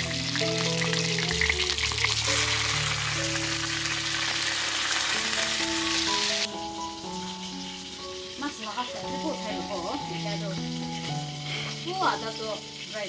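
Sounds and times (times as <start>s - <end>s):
background music of held notes: 0.0s - 13.0s
food sizzling in a pan: 0.0s - 13.0s.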